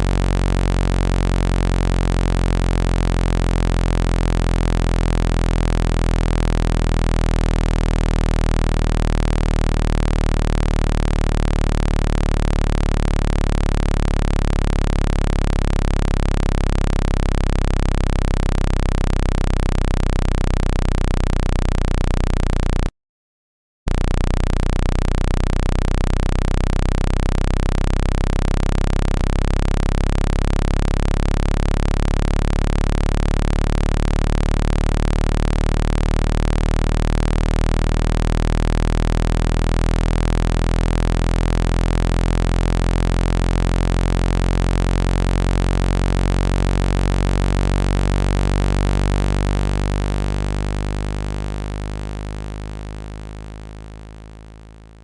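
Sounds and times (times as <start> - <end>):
low electronic buzzing tone: 0.0 - 22.9, 23.9 - 55.0.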